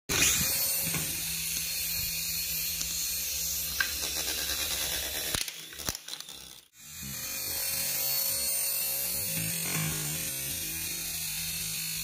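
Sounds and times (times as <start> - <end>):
toy helicopter rotors whirring: 0.1 - 12.0.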